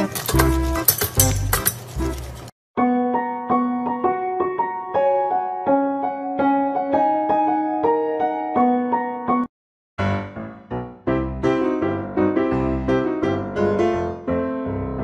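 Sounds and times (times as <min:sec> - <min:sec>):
gentle piano tune: 0:00.0 - 0:15.0.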